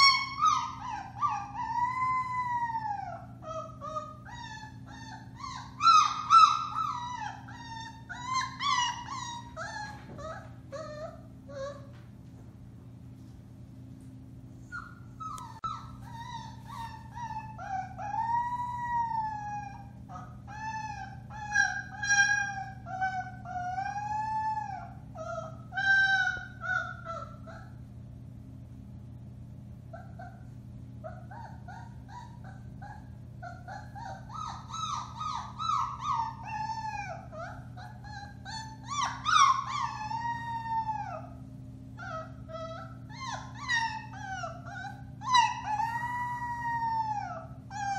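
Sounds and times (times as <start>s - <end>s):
puppy howling: 0.0s - 11.9s, 14.6s - 27.8s, 29.9s - 41.4s, 42.0s - 47.9s.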